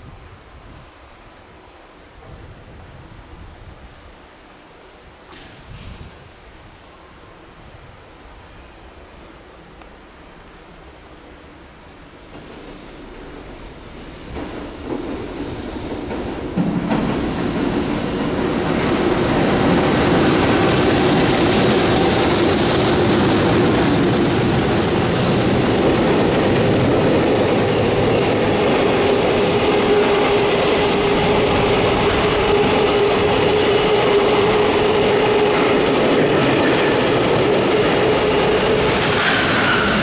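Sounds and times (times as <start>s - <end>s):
wheels rumbling on rail: 4.8s - 40.0s.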